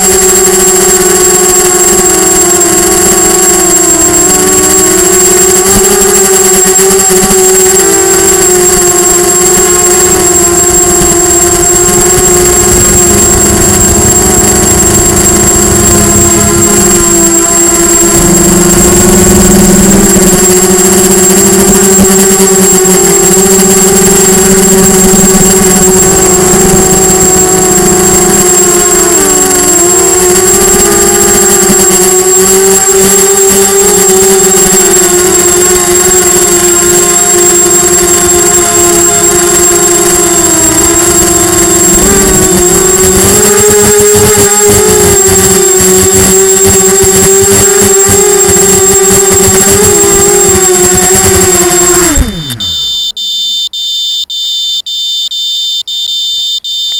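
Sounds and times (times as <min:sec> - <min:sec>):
drone motors buzzing whine: 0:00.0 - 0:56.9.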